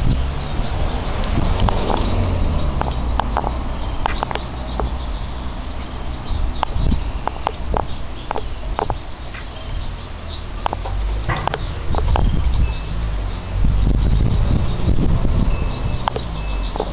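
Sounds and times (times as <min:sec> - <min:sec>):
bird chirps and calls: 0:00.0 - 0:16.9.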